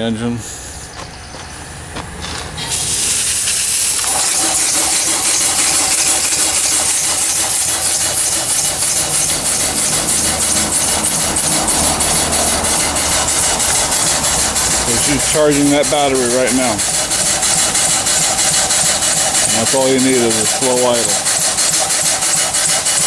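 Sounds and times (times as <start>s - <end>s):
loud steam hiss: 0.0s - 1.0s, 2.6s - 23.0s
steam engine exhaust chuffs: 0.0s - 23.0s.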